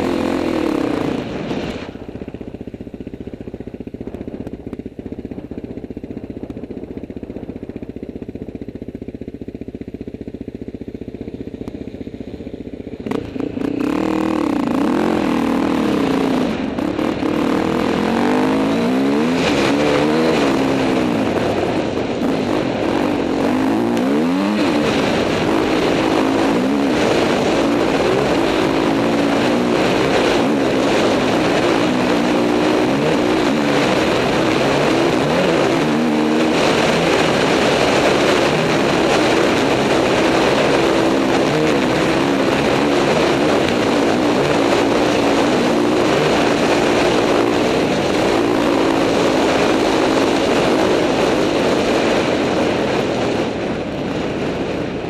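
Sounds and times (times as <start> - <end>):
trail bike engine revving: 0.0 - 55.0.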